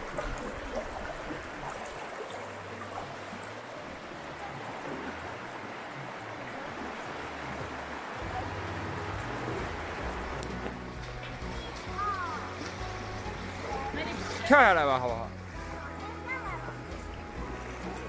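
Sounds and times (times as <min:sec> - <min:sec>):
people wading and splashing: 0:00.0 - 0:18.0
river water rushing: 0:00.0 - 0:18.0.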